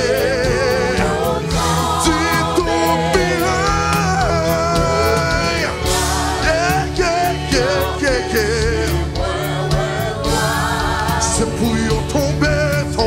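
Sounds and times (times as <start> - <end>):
gospel choir singing: 0.0 - 13.0
instrumental backing with steady beat: 0.0 - 13.0.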